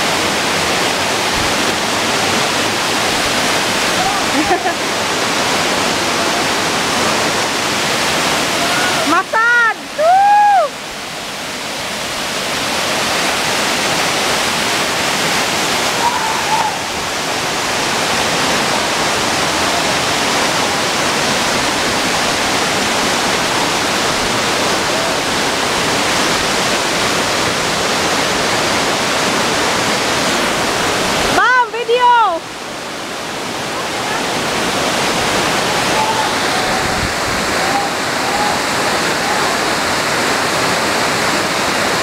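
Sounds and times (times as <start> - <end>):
waterfall rushing onto rock: 0.0 - 42.0.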